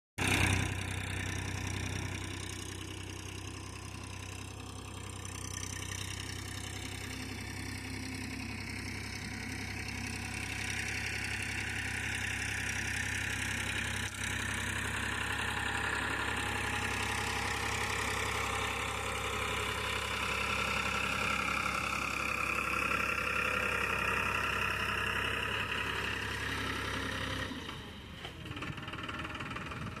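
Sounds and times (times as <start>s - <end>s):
tractor diesel engine droning: 0.2s - 30.0s.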